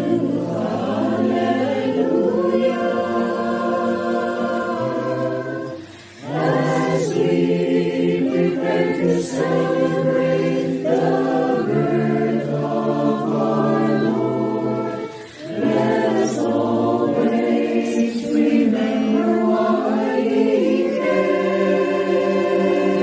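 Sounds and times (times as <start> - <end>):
church choir singing carol: 0.0 - 23.0.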